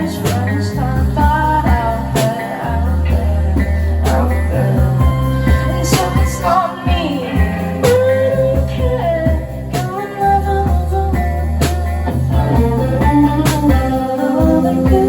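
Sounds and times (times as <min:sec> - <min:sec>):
guitar: 0:00.0 - 0:15.0
held bass notes: 0:00.0 - 0:15.0
rock band playing: 0:00.0 - 0:15.0.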